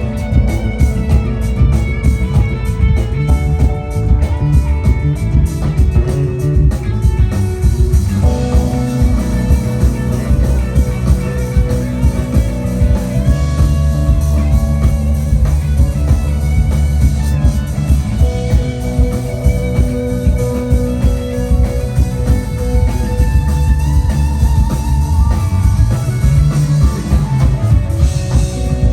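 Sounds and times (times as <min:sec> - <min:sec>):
guitar with long held notes: 0:00.0 - 0:28.9
rock band playing: 0:00.0 - 0:28.9.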